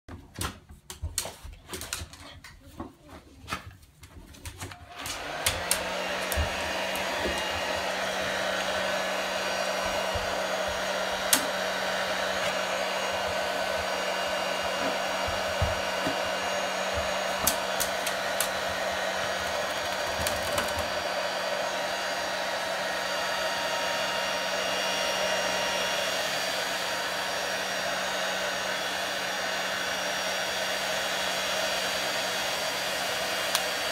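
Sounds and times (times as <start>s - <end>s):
hair dryer humming: 4.4s - 33.9s.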